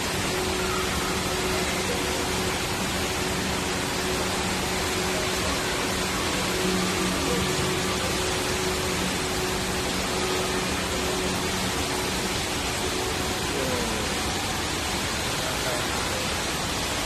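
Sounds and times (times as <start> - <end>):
indoor waterfall rushing: 0.0 - 17.0.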